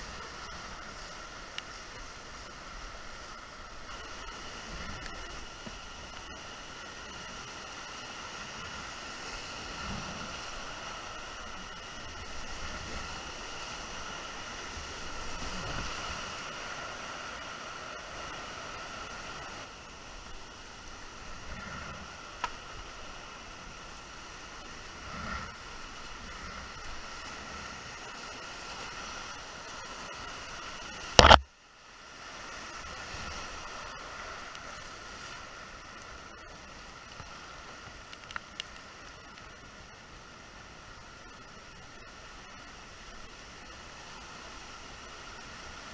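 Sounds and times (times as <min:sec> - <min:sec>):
rushing creek water: 0:00.0 - 0:45.9.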